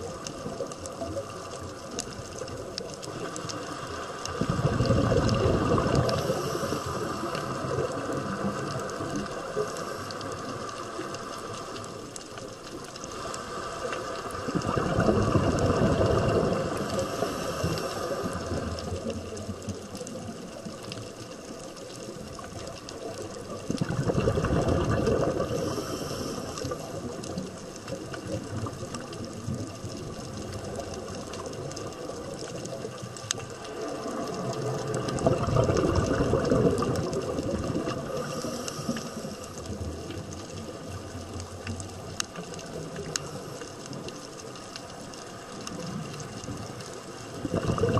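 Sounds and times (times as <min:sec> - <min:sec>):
exhaled bubbles rushing underwater: 0:00.0 - 0:47.9
faint crackling: 0:00.0 - 0:47.9
steady underwater hiss: 0:00.0 - 0:47.9.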